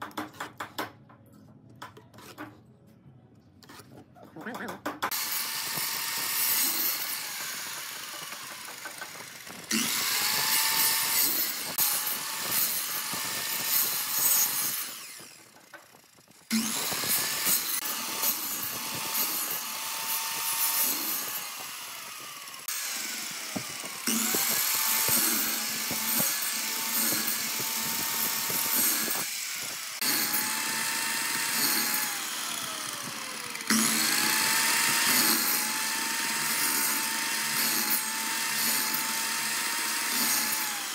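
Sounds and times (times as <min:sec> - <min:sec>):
saw cutting wood: 0:03.6 - 0:04.0, 0:05.1 - 0:40.9
miter saw motor whine: 0:05.2 - 0:40.9.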